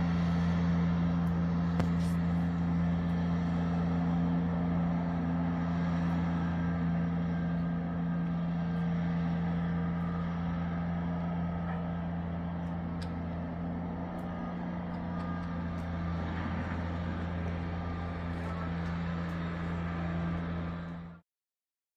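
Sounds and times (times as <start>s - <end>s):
low mechanical hum: 0.0s - 21.2s.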